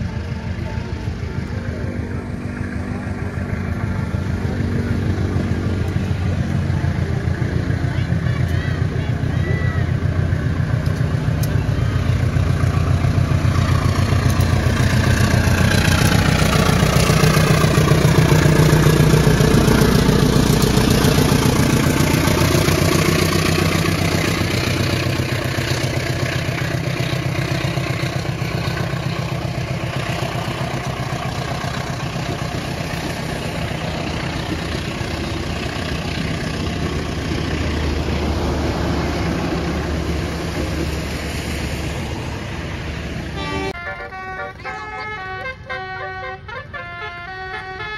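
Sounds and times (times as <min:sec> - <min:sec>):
bus diesel engine running: 0:00.0 - 0:47.9.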